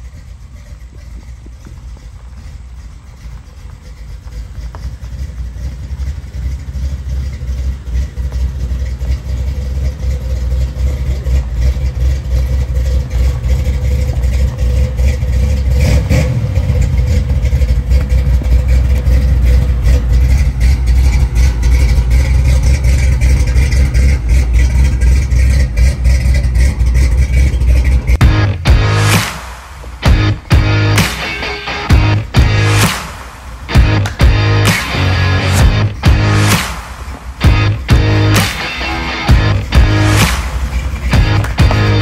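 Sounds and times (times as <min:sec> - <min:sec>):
pickup engine idling: 0:00.0 - 0:42.0.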